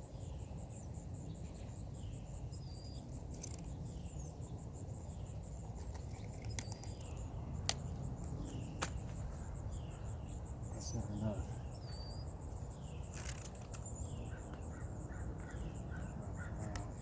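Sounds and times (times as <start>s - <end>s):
small birds chirping: 0.0s - 17.0s
insect trilling: 0.2s - 17.0s.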